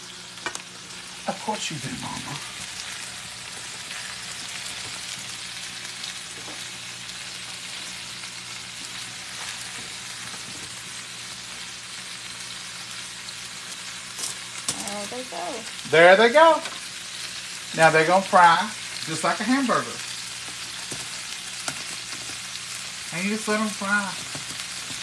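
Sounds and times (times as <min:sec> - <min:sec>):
meat sizzling in a skillet: 0:00.0 - 0:25.0.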